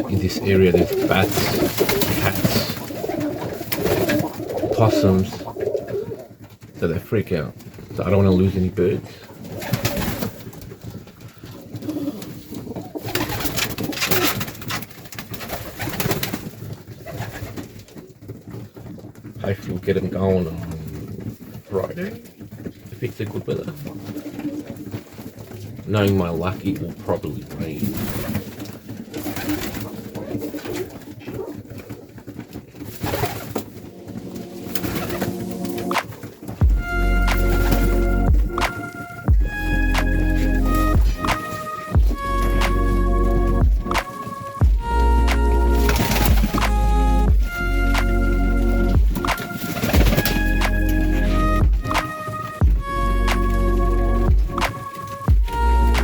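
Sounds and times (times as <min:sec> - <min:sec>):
pigeons cooing: 0:00.0 - 0:06.8, 0:09.0 - 0:19.4, 0:23.5 - 0:25.9, 0:27.8 - 0:56.0
wing flapping and rustling: 0:00.0 - 0:56.0.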